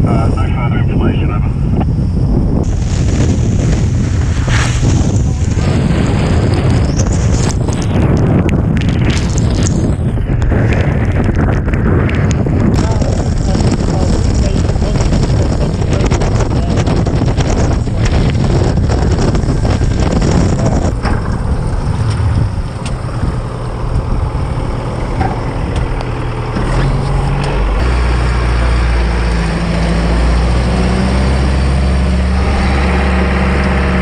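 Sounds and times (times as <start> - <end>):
outboard engines running: 0.0 - 34.0
wind rushing: 0.0 - 34.0.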